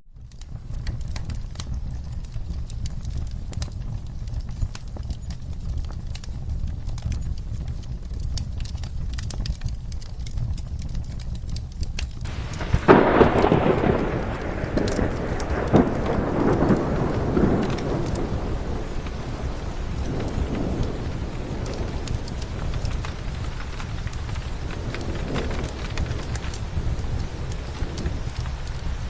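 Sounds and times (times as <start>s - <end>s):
wood fire crackling: 0.0s - 29.0s
low rumble: 0.1s - 29.0s
rain: 0.1s - 29.0s
thunderclap: 0.1s - 29.0s.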